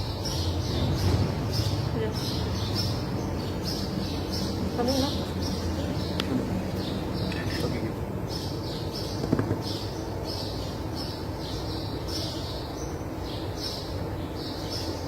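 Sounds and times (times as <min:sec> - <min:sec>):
bird chirping: 0:00.0 - 0:15.0
low background hum: 0:00.0 - 0:15.0.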